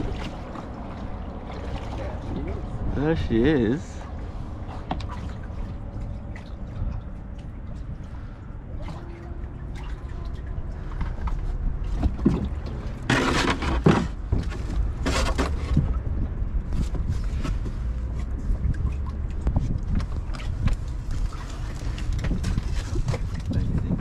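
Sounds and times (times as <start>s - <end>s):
water lapping and splashing: 0.0s - 24.0s
wind rumble on microphone: 0.0s - 24.0s.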